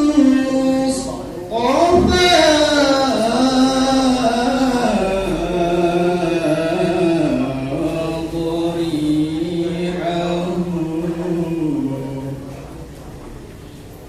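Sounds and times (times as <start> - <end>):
person singing devotional verse: 0.0 - 12.5.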